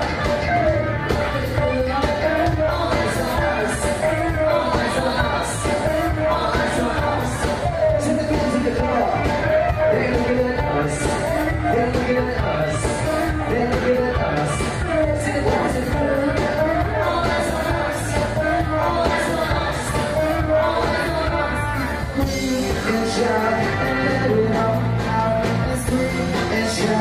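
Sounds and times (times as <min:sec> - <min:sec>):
live band playing pop-rock: 0:00.0 - 0:27.0
people singing: 0:01.1 - 0:27.0.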